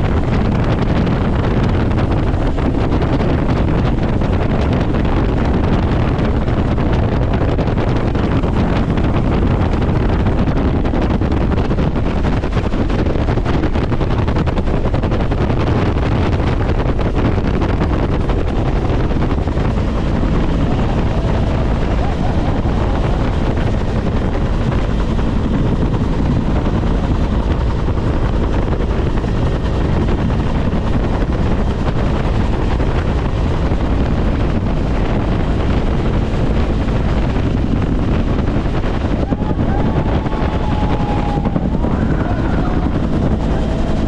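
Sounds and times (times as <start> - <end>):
helicopter turbine and rotor noise: 0.0 - 44.0
wind: 0.0 - 44.0.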